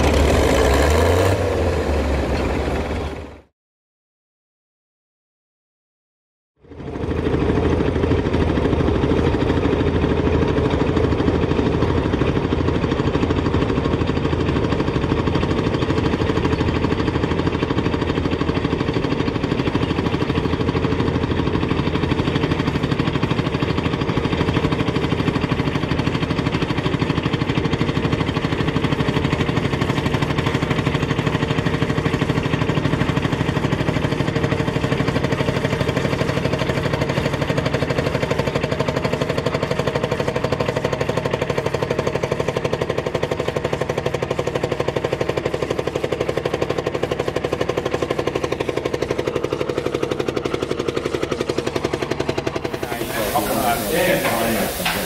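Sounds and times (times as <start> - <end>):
diesel engine chugging: 0.0 - 3.5, 6.6 - 55.0.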